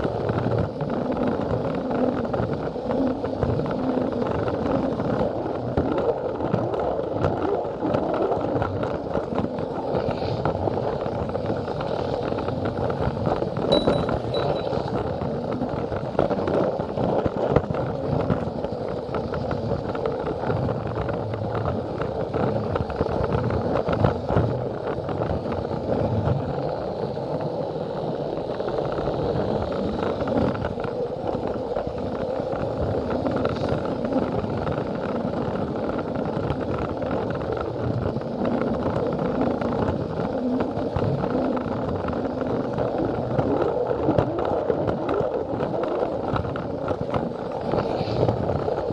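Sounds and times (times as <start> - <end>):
wheels clicking on track: 0.0 - 48.9.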